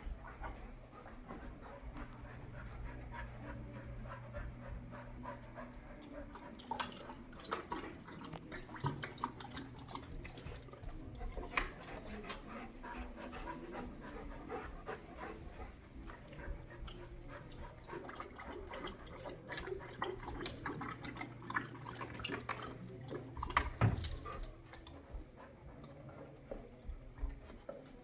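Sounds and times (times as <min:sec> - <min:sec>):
dogs panting: 0:00.0 - 0:28.0
dogs scuffling with clicks: 0:00.0 - 0:28.0.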